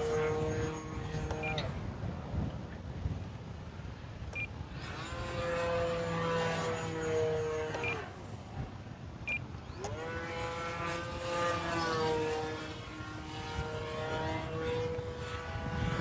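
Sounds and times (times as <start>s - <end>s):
wind rumbling on microphone: 0.0s - 9.6s, 10.2s - 16.0s
electric motor and propeller whining: 0.0s - 16.0s.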